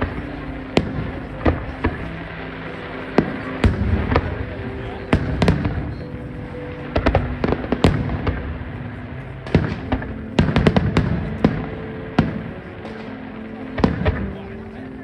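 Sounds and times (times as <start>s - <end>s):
fireworks bangs and cracks: 0.0s - 14.6s
background music: 0.0s - 15.0s.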